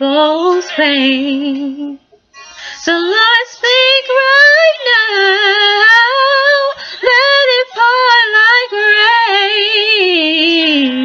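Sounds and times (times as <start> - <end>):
woman singing gospel solo: 0.0 - 2.1, 2.8 - 11.0.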